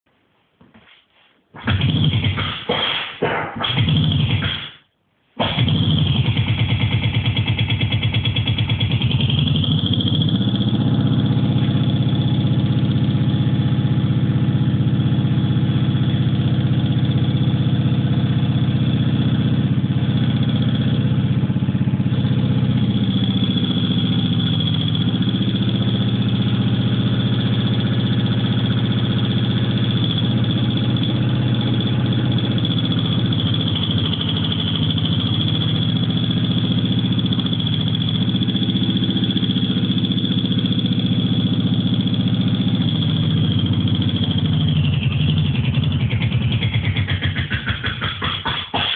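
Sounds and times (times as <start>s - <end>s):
lawnmower engine running: 5.4s - 14.3s, 15.0s - 48.9s.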